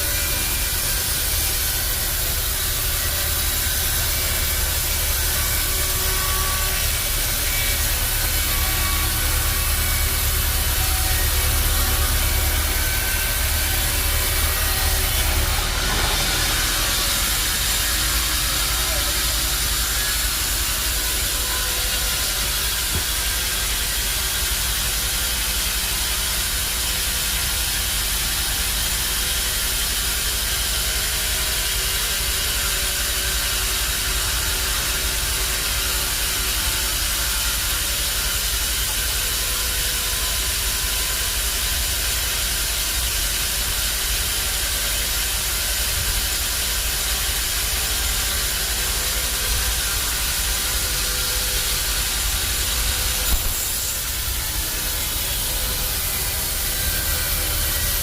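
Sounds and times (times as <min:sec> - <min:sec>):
bandsaw machinery running: 0:00.0 - 0:58.0.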